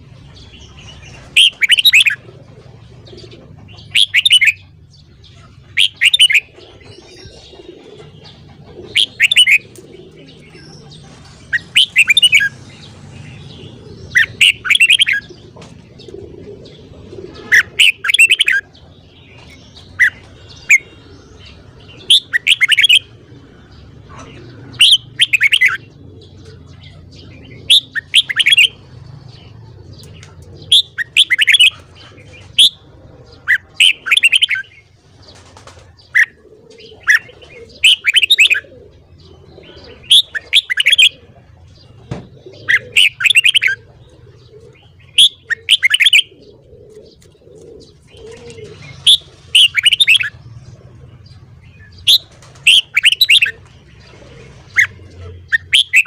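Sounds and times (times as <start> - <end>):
bird chattering song: 0.0 - 56.0.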